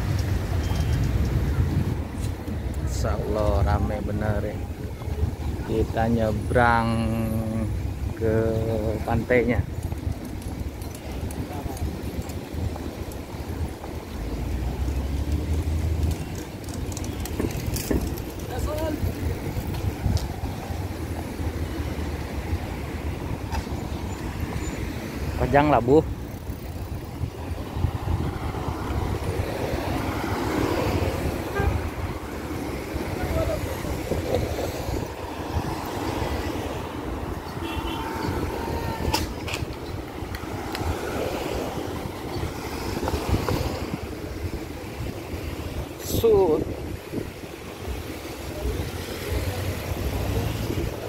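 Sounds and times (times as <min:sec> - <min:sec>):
cars driving past: 0:00.0 - 0:51.0
road traffic rumble: 0:00.0 - 0:51.0.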